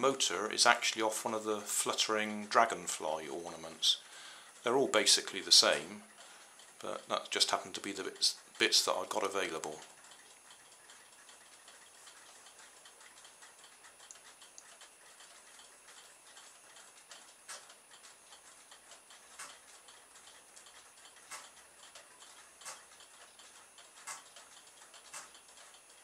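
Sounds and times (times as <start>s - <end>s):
faint irregular mechanical ticking: 0.0s - 26.0s.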